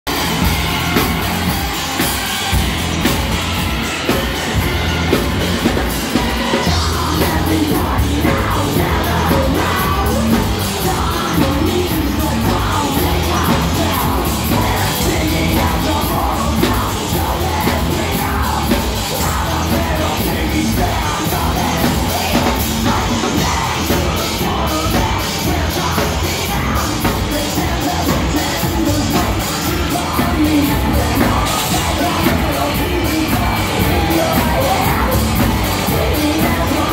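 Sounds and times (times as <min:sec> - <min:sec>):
heavy metal band playing: 0:00.0 - 0:36.9
yelled vocals: 0:00.1 - 0:36.9.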